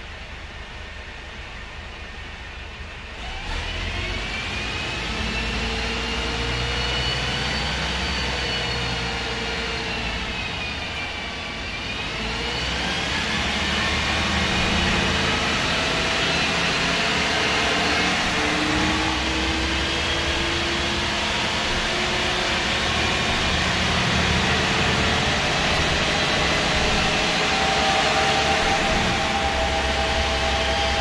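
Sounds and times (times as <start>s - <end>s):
bus engine and road noise: 0.0s - 31.0s
faint rising whine: 5.2s - 31.0s.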